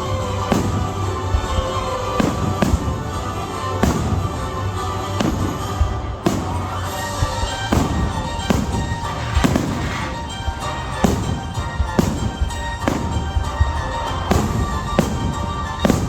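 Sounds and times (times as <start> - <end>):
fireworks bursting: 0.0 - 16.0
music: 0.0 - 16.0.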